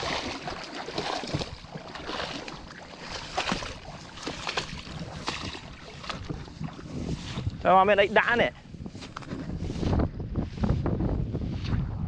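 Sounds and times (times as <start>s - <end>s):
footsteps through wet grass: 0.0s - 10.1s.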